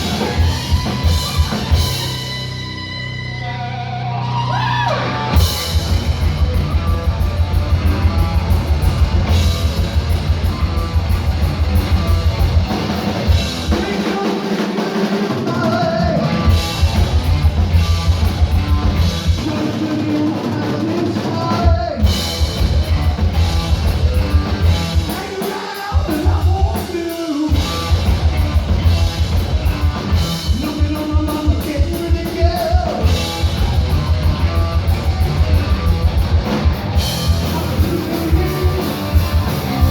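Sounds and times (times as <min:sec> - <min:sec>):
distorted electric guitars: 0:00.0 - 0:39.9
heavy metal band playing live: 0:00.0 - 0:39.9.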